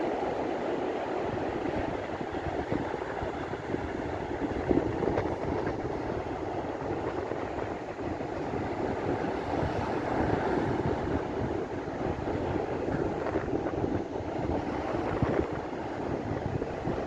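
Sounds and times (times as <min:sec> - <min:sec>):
ocean surf breaking: 0:00.0 - 0:17.0
wind blowing on microphone: 0:00.9 - 0:17.0.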